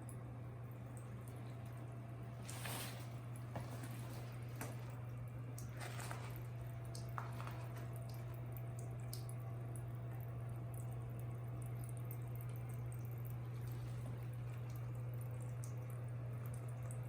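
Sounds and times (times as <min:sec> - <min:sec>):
steady low hum: 0:00.0 - 0:17.0
water trickling and dripping: 0:00.0 - 0:17.0
little water splashes: 0:00.7 - 0:17.0.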